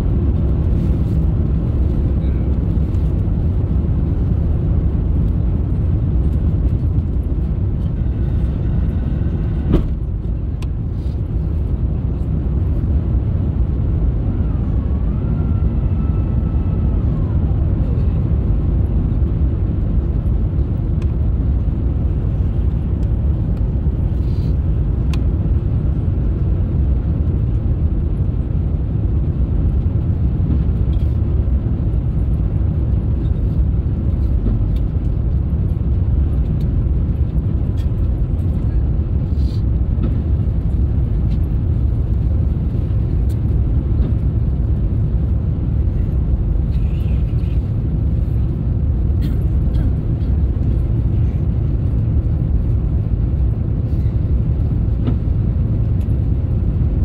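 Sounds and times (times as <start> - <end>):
airliner cabin rumble: 0.0 - 57.0.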